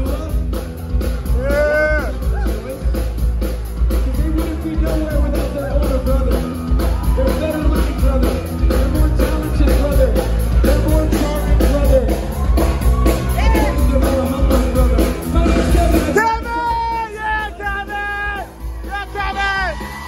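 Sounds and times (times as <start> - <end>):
drum kit fast beat: 0.0 - 20.0
electric bass: 0.0 - 20.0.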